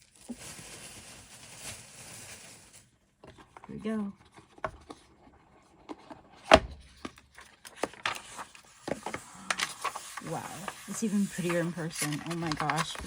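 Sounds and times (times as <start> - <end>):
packaging clicks and rustles: 0.0 - 13.0.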